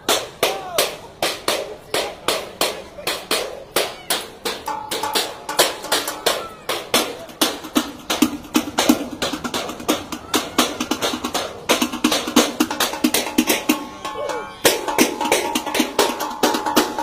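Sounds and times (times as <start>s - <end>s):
sticks beating metal trash cans: 0.0s - 17.0s.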